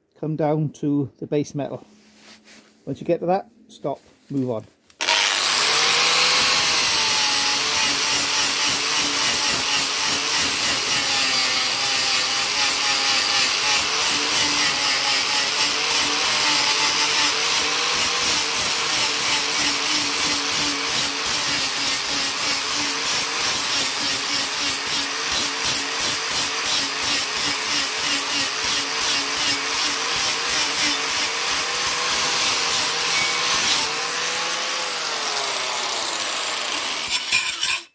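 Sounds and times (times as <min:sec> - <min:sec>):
angle grinder grinding metal: 0:05.0 - 0:37.9.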